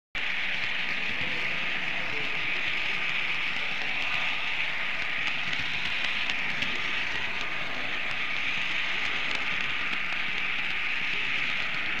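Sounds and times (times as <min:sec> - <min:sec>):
model train motor whirring: 0:00.2 - 0:12.0.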